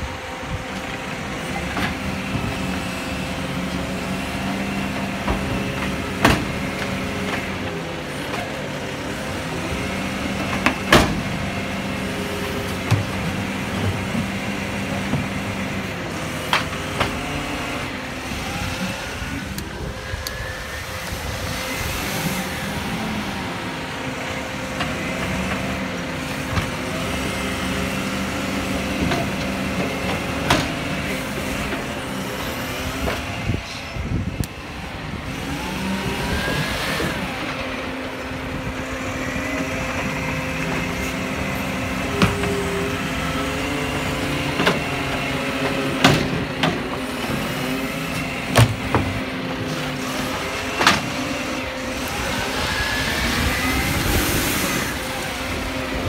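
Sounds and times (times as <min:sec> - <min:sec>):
garbage truck running: 0:00.0 - 0:56.0
hydraulic arm whining: 0:00.0 - 0:56.0.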